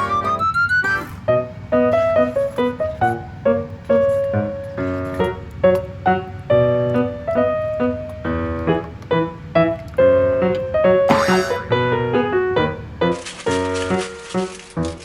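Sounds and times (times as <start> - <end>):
light piano melody: 0.0 - 15.0.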